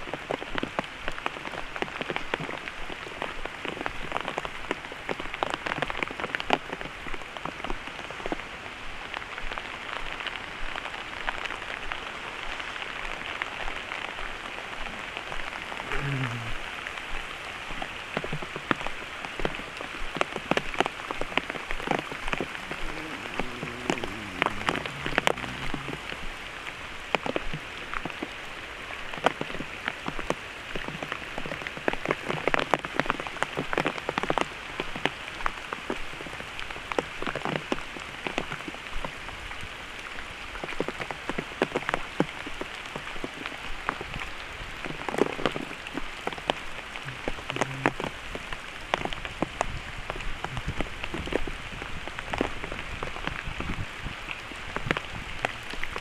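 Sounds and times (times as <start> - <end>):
heavy rain: 0.0 - 56.0
large raindrops tapping: 0.0 - 56.0.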